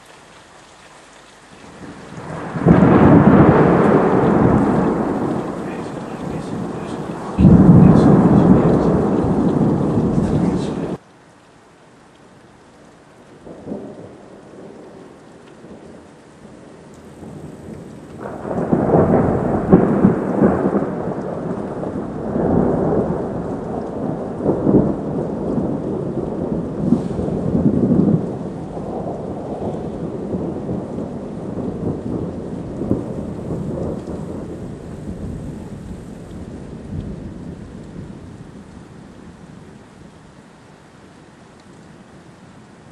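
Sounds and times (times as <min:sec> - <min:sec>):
rain: 0:00.0 - 0:42.9
thunder rumbling and cracking: 0:01.6 - 0:11.0, 0:13.4 - 0:39.8.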